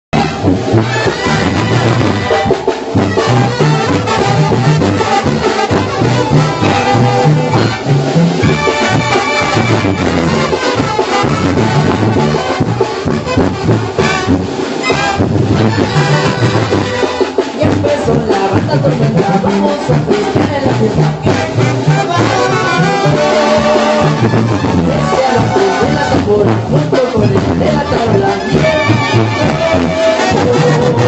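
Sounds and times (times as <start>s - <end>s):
brass band playing: 0.1s - 31.0s.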